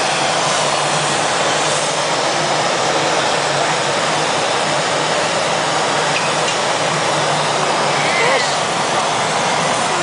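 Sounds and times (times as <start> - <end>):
gas burners rushing: 0.0 - 10.0.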